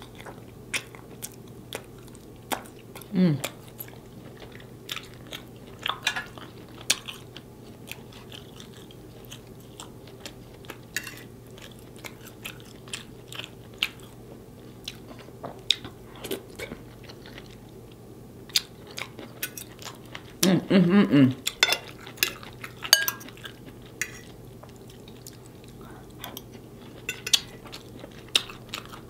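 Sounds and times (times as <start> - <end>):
chewing and mouth sounds: 0.0 - 20.6, 21.4 - 29.0
faint steady hum: 0.0 - 29.0.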